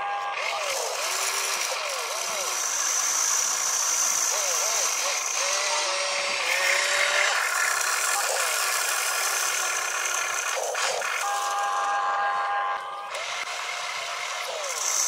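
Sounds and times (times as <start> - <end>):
electric motors whirring: 0.0 - 15.0.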